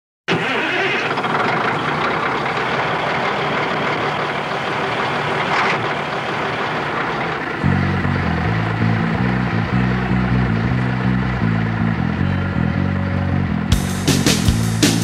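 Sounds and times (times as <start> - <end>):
truck engine and road rumble: 0.3 - 15.0.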